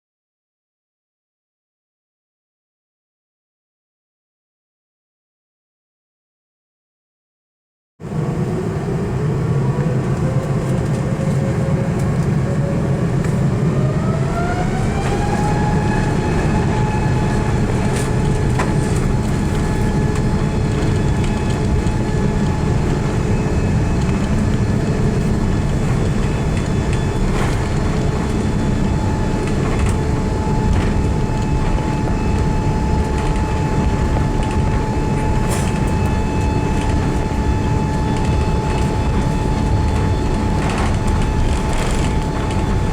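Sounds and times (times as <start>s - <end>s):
jet engine whine rising: 8.0s - 42.9s
loud jet engine rumble: 8.0s - 42.9s.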